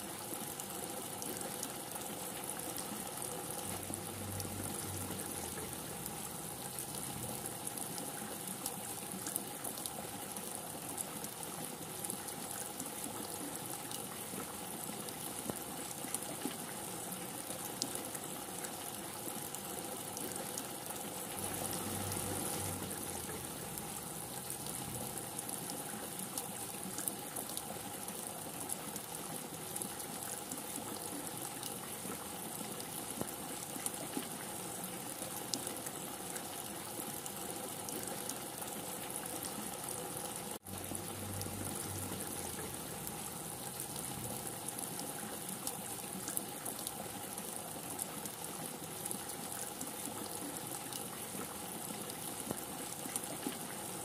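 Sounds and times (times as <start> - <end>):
rain falling: 0.1 - 54.0.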